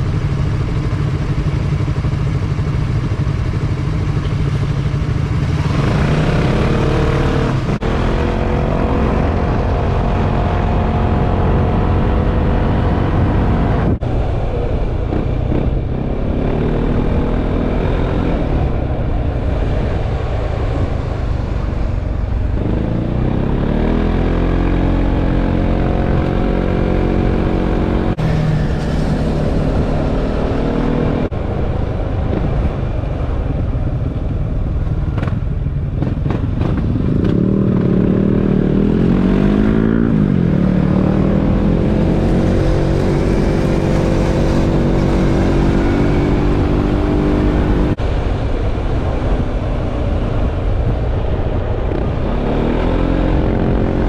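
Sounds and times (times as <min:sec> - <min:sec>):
scooter engine idling and accelerating: 0:00.0 - 0:54.0.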